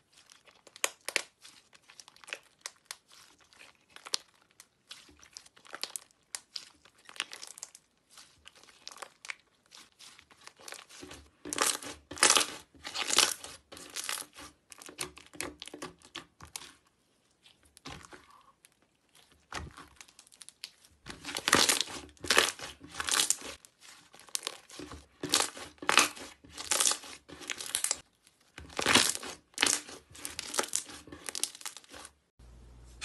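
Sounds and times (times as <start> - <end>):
slime crackling and popping: 0.1 - 16.8, 17.7 - 32.1.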